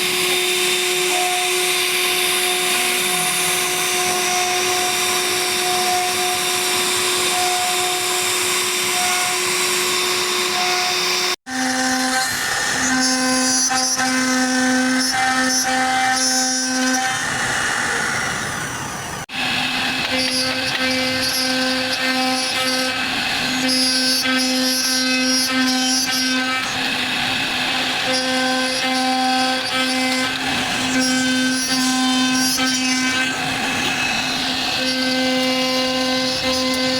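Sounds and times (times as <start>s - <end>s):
router spindle whining: 0.0s - 36.9s
wood cutting noise: 0.0s - 36.9s.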